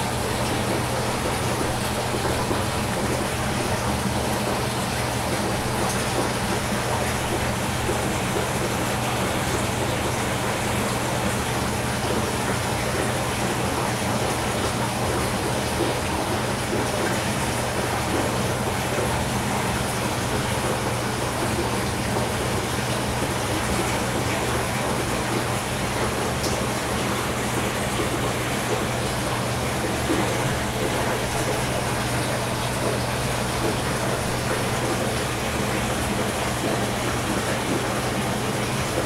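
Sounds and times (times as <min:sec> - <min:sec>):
filter water splashing: 0:00.0 - 0:39.0.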